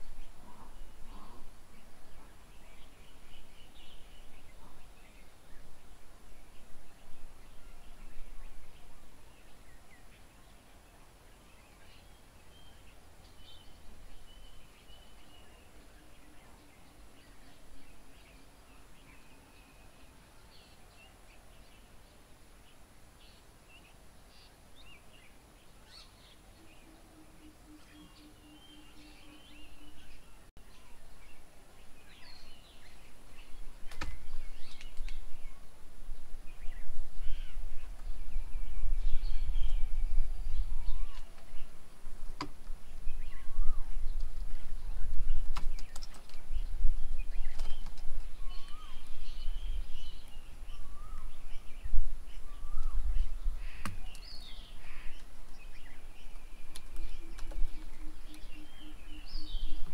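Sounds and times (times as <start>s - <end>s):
birds calling: 0.0s - 35.8s, 36.4s - 59.9s.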